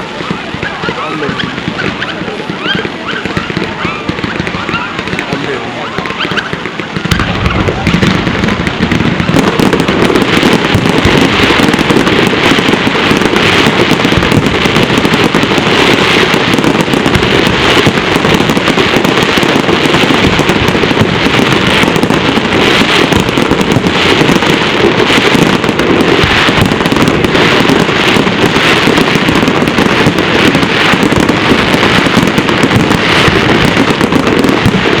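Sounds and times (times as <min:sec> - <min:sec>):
fireworks bangs and crackling: 0:00.0 - 0:35.0.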